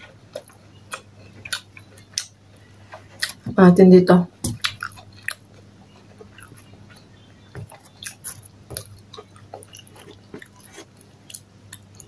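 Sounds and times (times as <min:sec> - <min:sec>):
person chewing food: 0:00.0 - 0:03.5, 0:04.4 - 0:12.0
faint low hum: 0:00.0 - 0:12.0.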